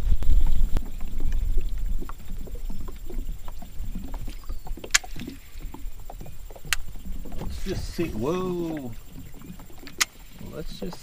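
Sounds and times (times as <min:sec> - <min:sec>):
water lapping against boat hull: 0:00.0 - 0:11.0
wind rumble on microphone: 0:00.0 - 0:11.0.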